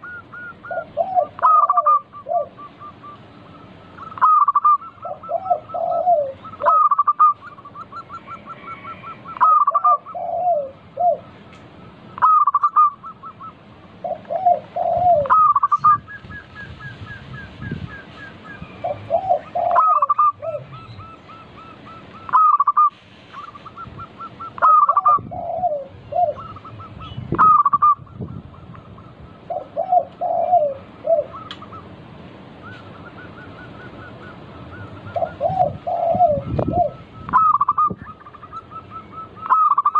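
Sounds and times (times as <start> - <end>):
doves cooing and trilling: 0.0 - 39.9.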